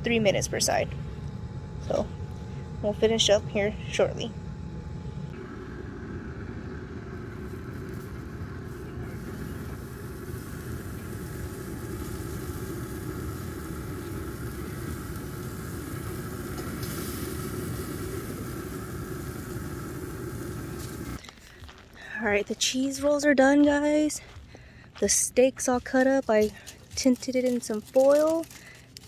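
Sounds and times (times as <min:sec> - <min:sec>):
faint steady hum: 0:00.0 - 0:29.0
grill fire and fan noise: 0:00.0 - 0:29.0.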